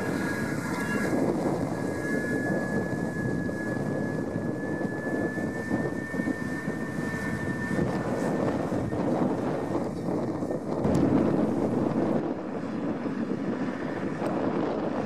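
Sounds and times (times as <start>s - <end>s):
thin high whine: 0.0s - 13.4s
tractor diesel engine droning: 0.0s - 14.9s.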